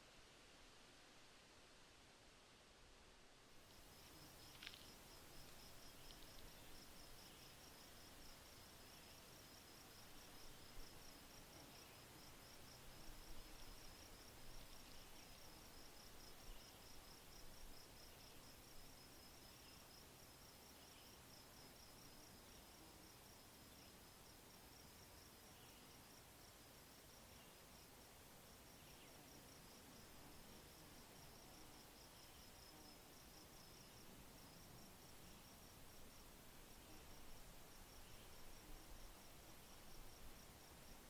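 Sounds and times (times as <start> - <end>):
steady hiss: 0.0 - 41.0
insect chirping in rapid pulse: 3.7 - 41.0.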